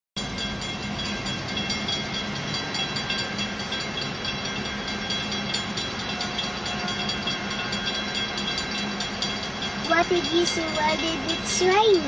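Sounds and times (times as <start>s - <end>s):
constant low hum: 0.2s - 12.0s
train rail noise: 0.2s - 12.0s.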